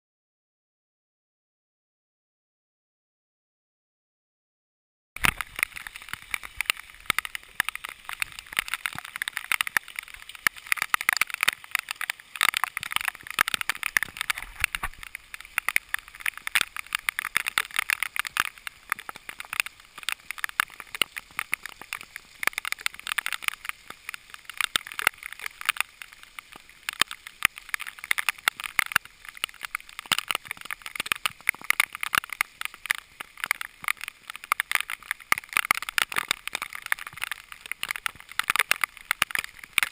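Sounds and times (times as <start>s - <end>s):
raindrops ticking on camera: 5.2s - 39.9s
steady rain hiss: 5.2s - 39.9s.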